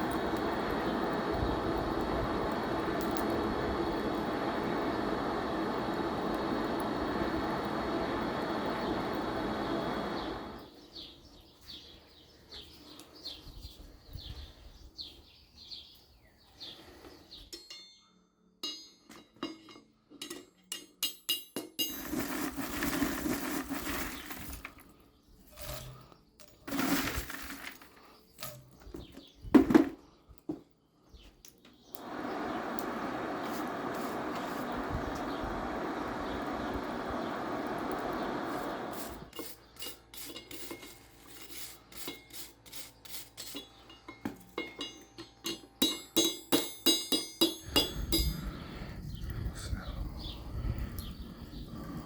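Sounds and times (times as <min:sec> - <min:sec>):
steady workshop noise: 0:00.0 - 0:14.0, 0:16.9 - 0:49.3.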